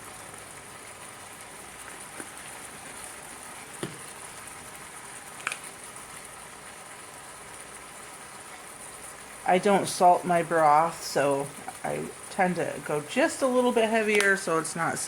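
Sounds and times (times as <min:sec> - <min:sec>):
chicken sizzling in butter: 0:00.0 - 0:15.0.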